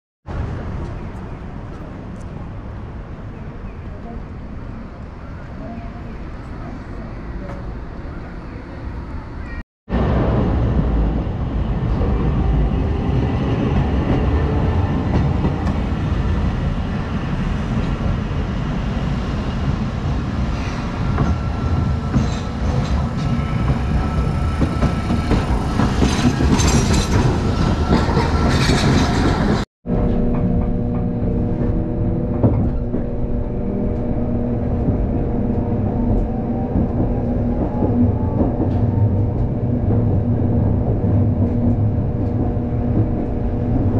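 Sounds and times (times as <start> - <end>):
streetcar hum with held tones: 0.3 - 43.9
streetcar wheels on rails: 0.3 - 43.9.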